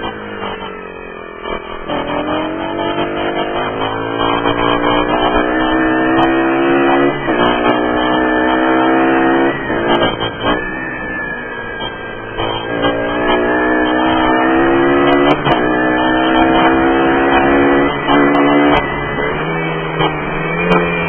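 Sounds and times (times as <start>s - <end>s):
small motorcycle engine accelerating: 0.0s - 21.0s.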